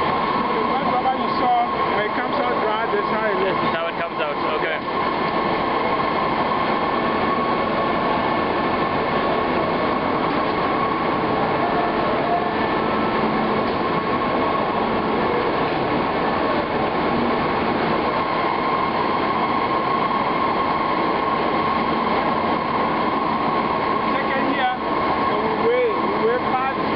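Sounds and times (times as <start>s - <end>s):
factory machinery running: 0.0s - 26.9s
high machine whine: 0.0s - 26.9s.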